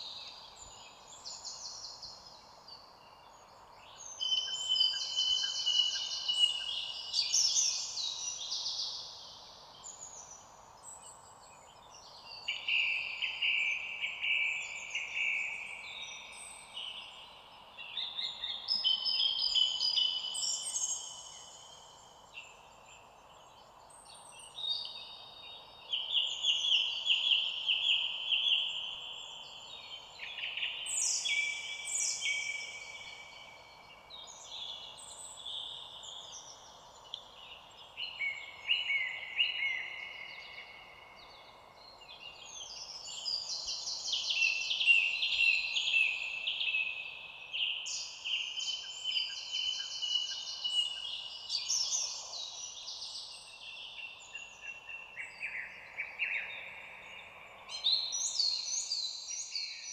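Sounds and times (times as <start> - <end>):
chorus of songbirds: 0.0 - 59.9
faint background noise: 0.0 - 59.9.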